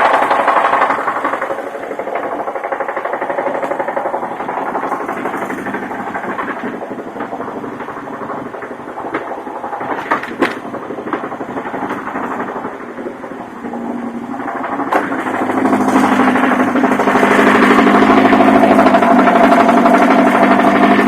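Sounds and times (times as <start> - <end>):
engine running with knocking: 0.0 - 21.0.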